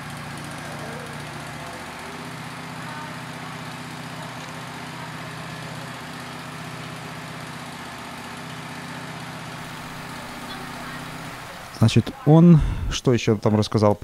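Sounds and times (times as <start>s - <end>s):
sawmill engine idling: 0.0s - 12.8s.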